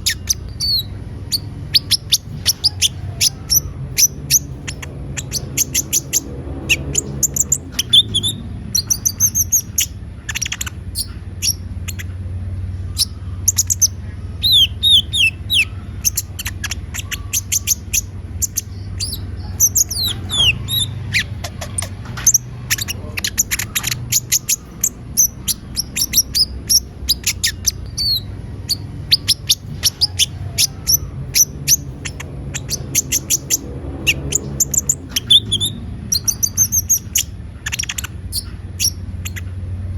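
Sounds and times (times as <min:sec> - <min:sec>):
sunbird chirping and trilling: 0:00.0 - 0:39.6
steady low hum: 0:00.0 - 0:39.9.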